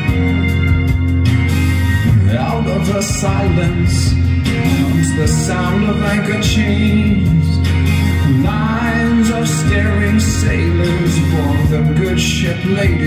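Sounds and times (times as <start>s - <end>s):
pop song from record player: 0.0s - 13.0s.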